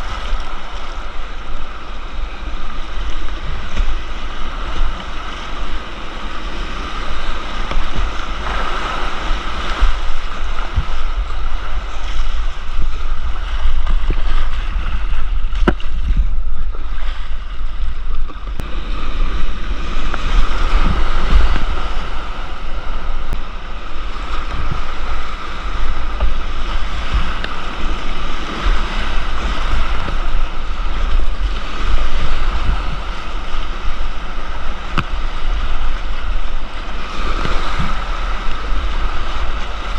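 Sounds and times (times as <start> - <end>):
whitewater rapids rushing: 0.0 - 39.9
wind buffeting microphone: 0.0 - 39.9.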